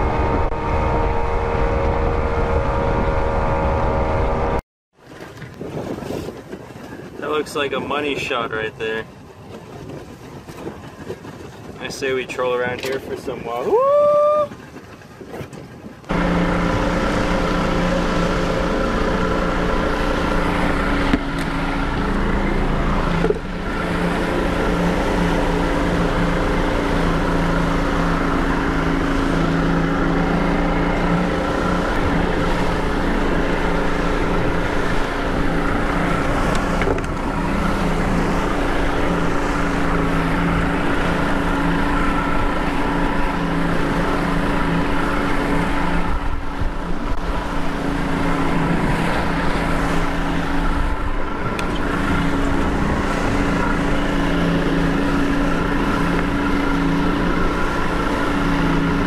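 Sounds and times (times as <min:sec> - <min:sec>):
boat engine droning: 0:00.0 - 0:59.0
wake water rushing: 0:00.0 - 0:59.0
wind: 0:00.0 - 0:59.0.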